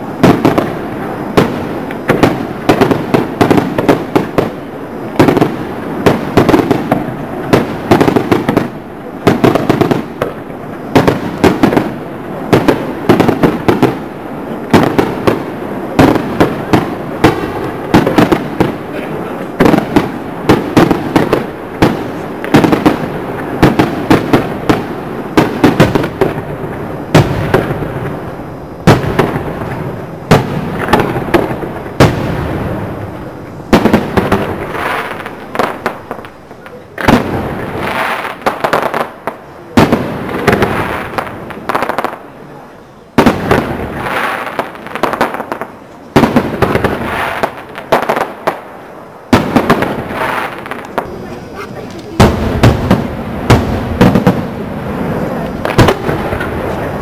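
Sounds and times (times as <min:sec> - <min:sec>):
fireworks bangs and crackles: 0:00.0 - 0:57.0
loud firework blasts: 0:00.0 - 0:57.0.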